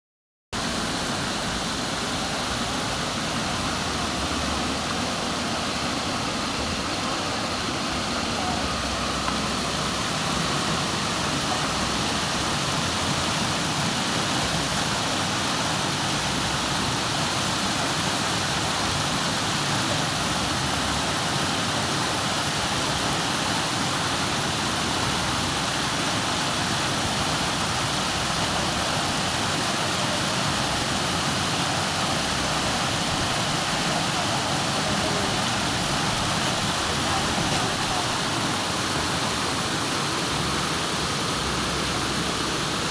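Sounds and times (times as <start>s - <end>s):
flowing water rushing: 0.6s - 42.9s.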